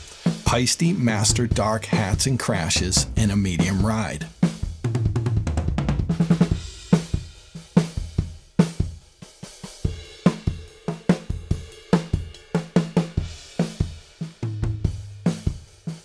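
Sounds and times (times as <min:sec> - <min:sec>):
rock drum kit groove: 0:00.0 - 0:16.0.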